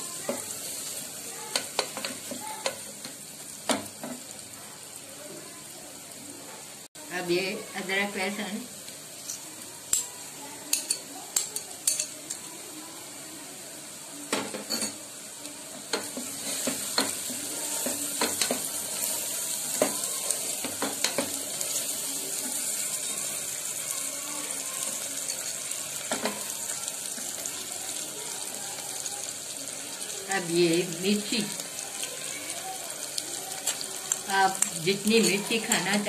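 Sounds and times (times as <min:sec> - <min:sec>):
onions sizzling in oil: 0:00.0 - 0:36.0.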